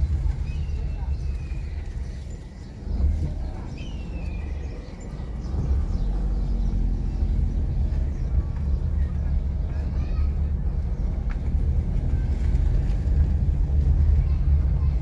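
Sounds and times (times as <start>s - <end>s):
steady low street rumble: 0.0s - 15.0s.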